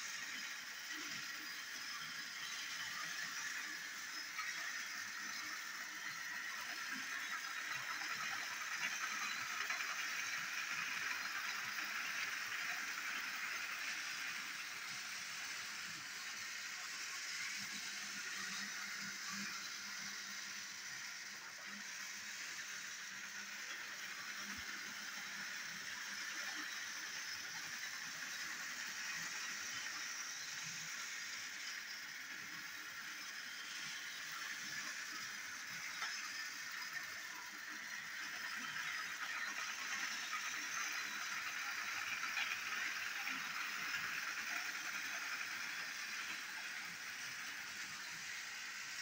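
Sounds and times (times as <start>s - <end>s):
toy train motor whirring: 0.0s - 49.0s.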